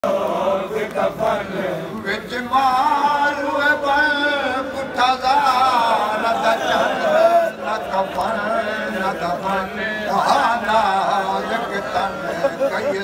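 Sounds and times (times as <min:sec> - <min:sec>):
man chanting a lament: 0:01.4 - 0:13.0.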